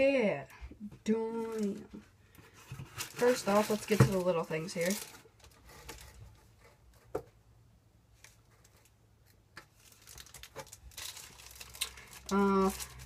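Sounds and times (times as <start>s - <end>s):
plastic and paper rustling: 1.1s - 7.2s, 8.2s - 13.0s.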